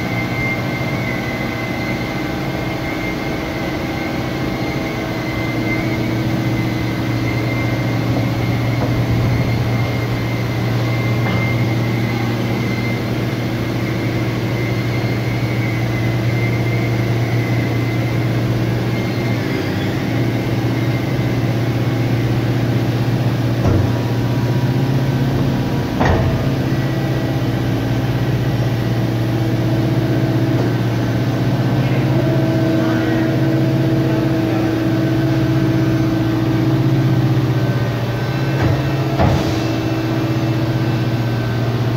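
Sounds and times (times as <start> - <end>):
press machine humming: 0.0 - 41.9.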